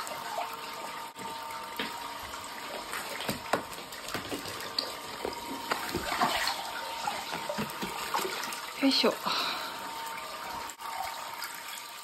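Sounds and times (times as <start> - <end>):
water drips and splashes: 0.0 - 12.0
water running into bath: 0.0 - 12.0.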